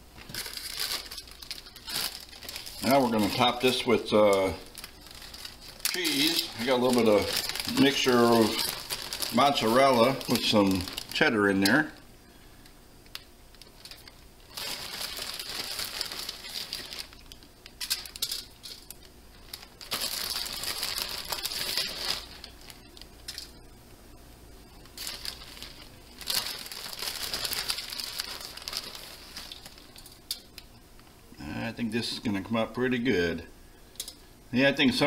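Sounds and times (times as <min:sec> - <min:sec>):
plastic bag crinkling: 0:00.2 - 0:12.0, 0:13.1 - 0:23.6, 0:24.8 - 0:30.7.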